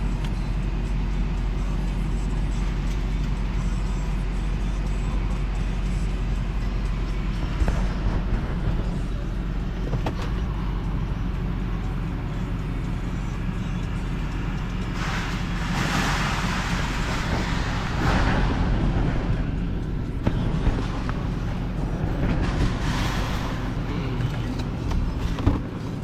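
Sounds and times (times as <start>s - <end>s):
vehicle low hum: 0.0s - 26.0s.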